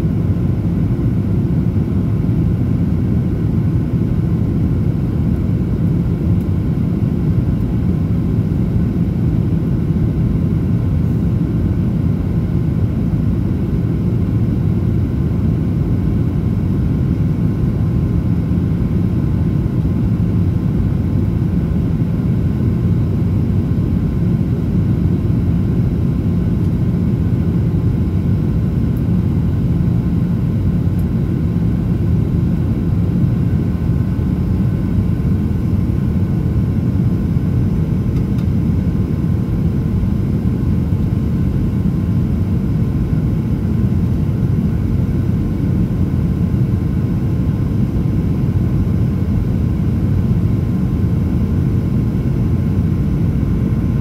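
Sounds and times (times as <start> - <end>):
faint steady hum: 0.0 - 54.0
jet engine cabin rumble: 0.0 - 54.0.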